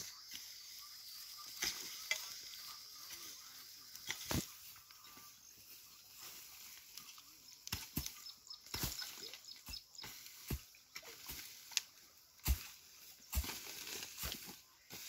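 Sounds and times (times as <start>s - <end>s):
dry grass scraping and rustling: 0.0s - 15.0s
hand hoe chopping into dry soil: 1.4s - 5.3s, 6.6s - 15.0s.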